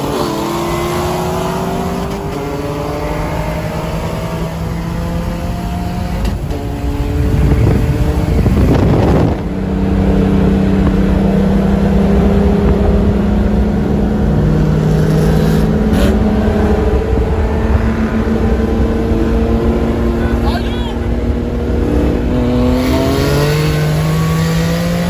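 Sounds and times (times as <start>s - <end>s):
car engine at high revs: 0.0s - 25.0s.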